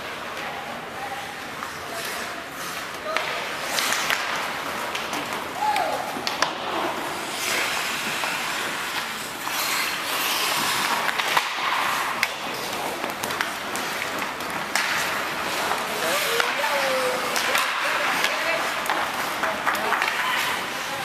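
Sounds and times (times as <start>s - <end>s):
hockey sticks and puck clicking: 0.0s - 21.0s
skate blades scraping ice: 0.0s - 21.0s.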